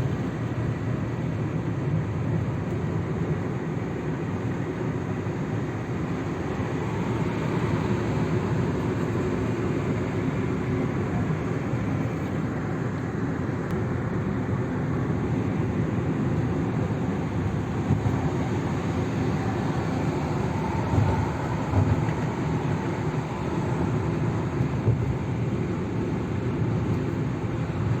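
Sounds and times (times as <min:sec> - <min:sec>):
vehicle rumbling: 0:00.0 - 0:28.0.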